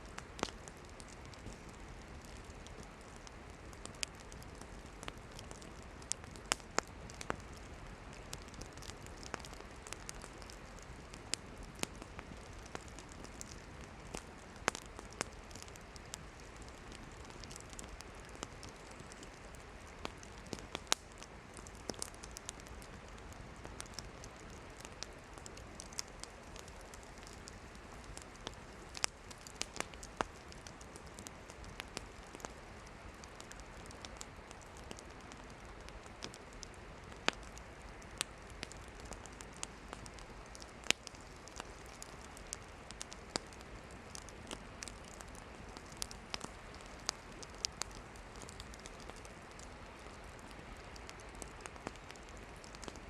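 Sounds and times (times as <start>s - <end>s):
campfire hissing: 0.0s - 53.0s
firewood crackling and popping: 0.0s - 53.0s.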